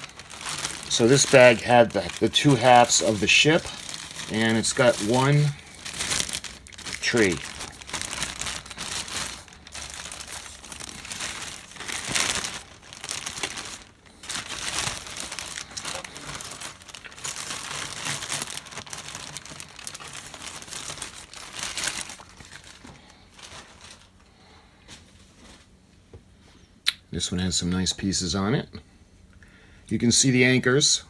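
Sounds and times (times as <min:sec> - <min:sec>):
plastic bag crinkling and rustling: 0:00.0 - 0:25.8.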